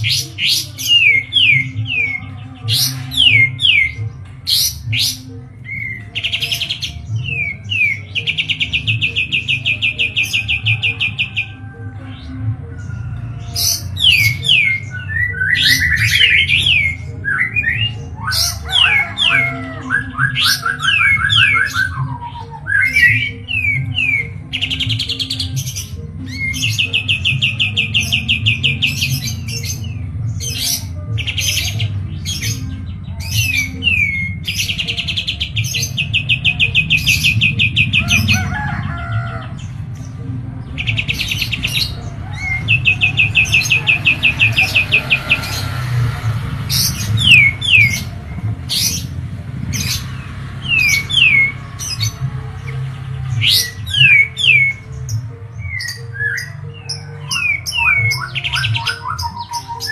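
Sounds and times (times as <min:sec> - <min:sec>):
songbird trilling and whistling: 0:00.0 - 0:59.9.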